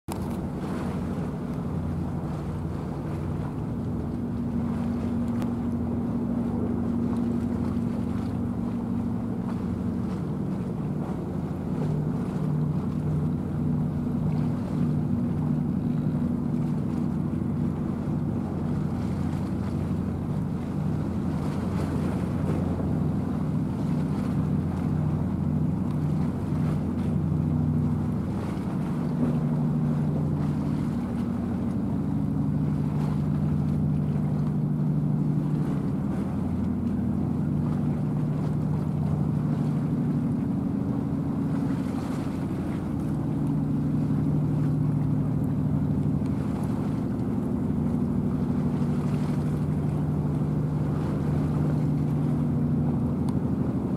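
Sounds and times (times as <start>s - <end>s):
ship engine drone: 0.1s - 53.9s.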